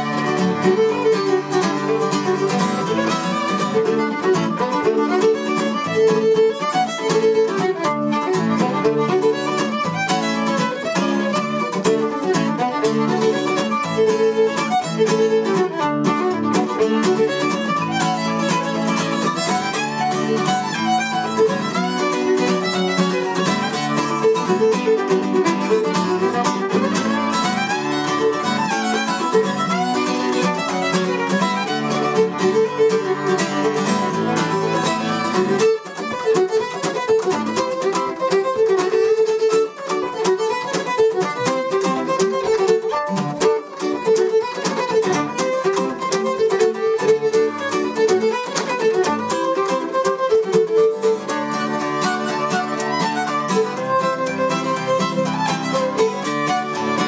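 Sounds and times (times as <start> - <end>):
bowed fiddle melody: 0.0 - 57.0
guitar accompaniment: 0.0 - 57.0.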